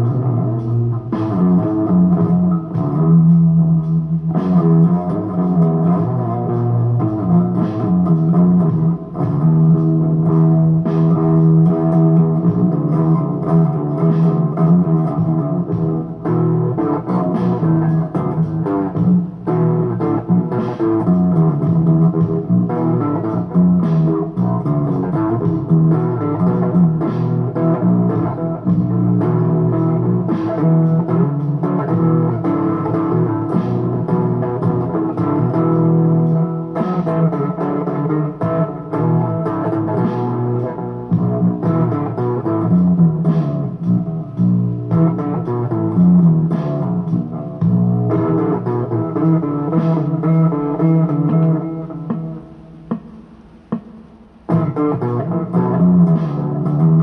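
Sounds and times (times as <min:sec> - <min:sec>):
electric guitar playing blues: 0:00.0 - 0:57.0.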